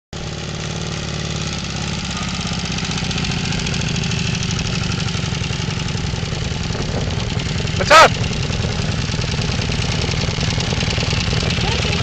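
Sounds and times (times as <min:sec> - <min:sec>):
motorcycle engine running: 0:00.2 - 0:12.0.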